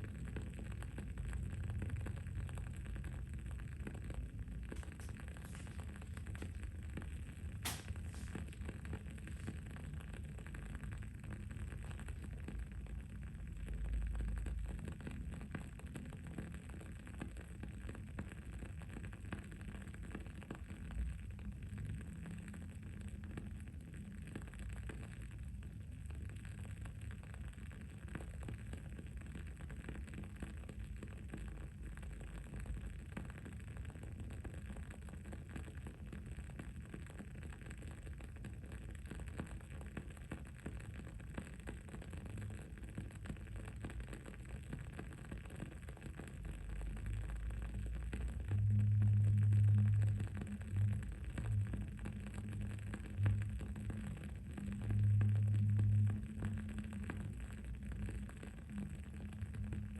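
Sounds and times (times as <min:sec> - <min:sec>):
candle crackling: 0:00.0 - 0:59.9
low background rumble: 0:00.0 - 0:59.9.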